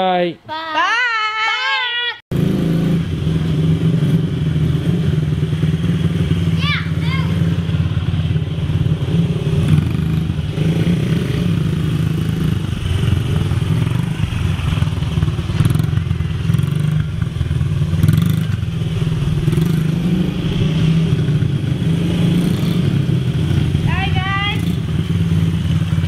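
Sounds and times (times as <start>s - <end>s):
dirt bike engine running: 2.3s - 26.0s.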